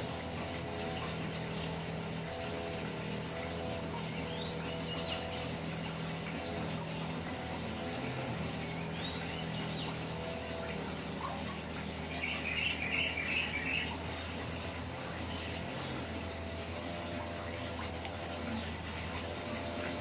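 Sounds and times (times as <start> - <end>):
water-like rush: 0.0 - 20.0
birds chirping: 0.1 - 20.0.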